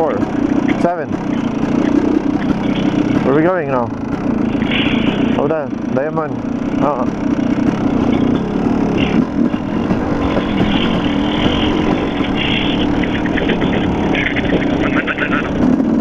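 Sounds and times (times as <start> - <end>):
bursts of clatter: 0.0 - 16.0
dirt bike engine under load: 0.0 - 16.0.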